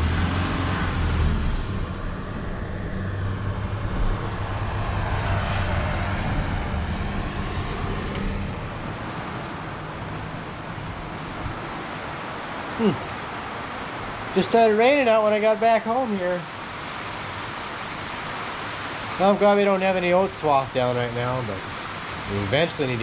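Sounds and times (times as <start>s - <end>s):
road noise: 0.0s - 23.0s
truck engine hum: 0.0s - 23.0s.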